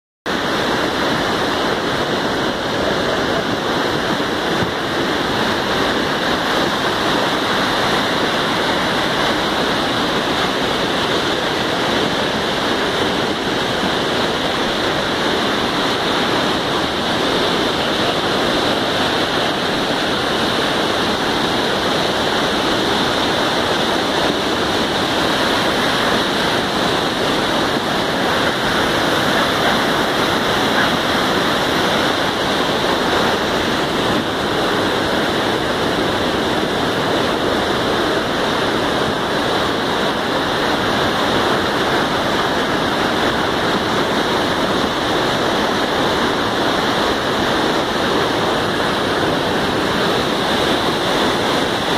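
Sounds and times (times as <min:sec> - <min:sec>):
floodwater rushing: 0:00.3 - 0:51.9.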